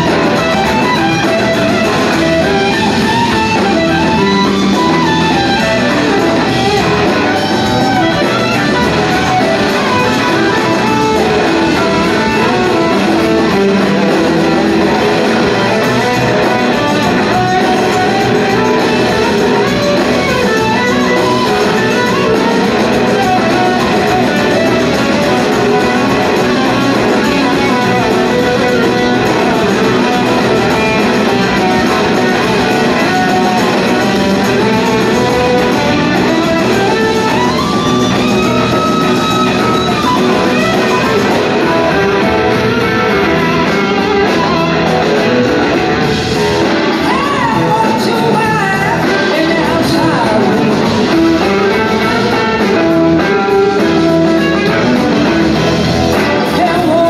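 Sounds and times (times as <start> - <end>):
drums: 0.0 - 57.0
electric guitars bending: 0.0 - 57.0.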